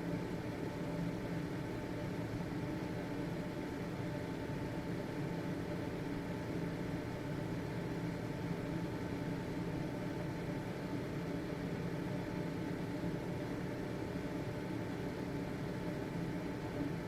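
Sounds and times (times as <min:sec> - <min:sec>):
ventilation fan motor hum: 0:00.0 - 0:17.0.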